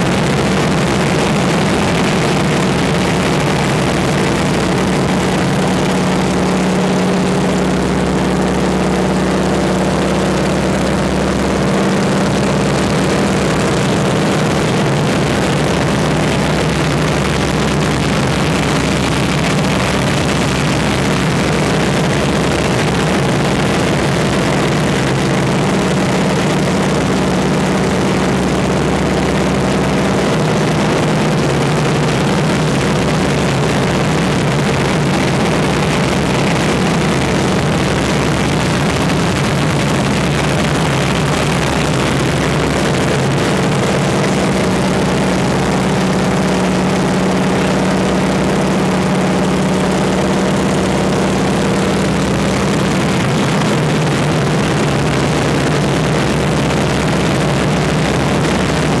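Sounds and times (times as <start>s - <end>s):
propeller engine droning: 0.0s - 59.0s.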